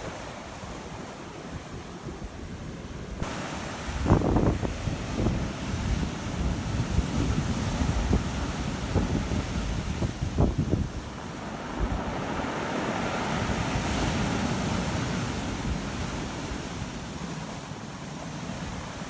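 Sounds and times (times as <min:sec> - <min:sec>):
wind buffeting microphone: 0:00.0 - 0:17.6
surf breaking on stony shore: 0:00.0 - 0:19.0.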